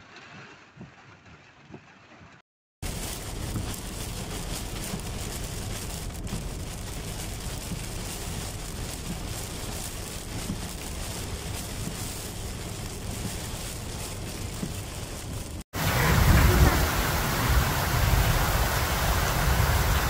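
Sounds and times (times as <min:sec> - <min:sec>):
road and engine rumble: 0:00.0 - 0:20.0
heavy rain on car windshield: 0:00.2 - 0:20.0.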